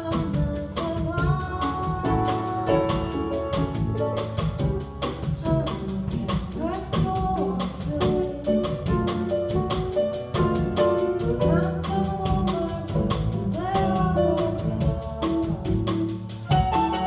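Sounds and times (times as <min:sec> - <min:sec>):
small jazz band playing: 0:00.0 - 0:17.0
steady cymbal beat: 0:00.0 - 0:17.0.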